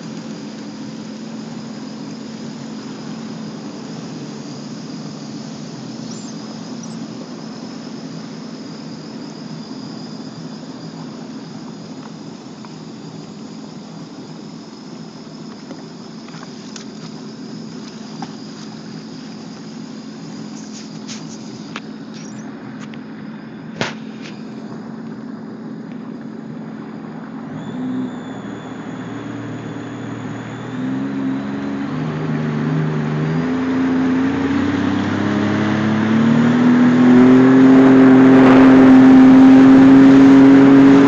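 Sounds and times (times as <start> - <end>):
faint high whine: 0.0 - 41.0
water rushing along hull: 0.0 - 41.0
watercraft engine at low revs: 0.0 - 41.0.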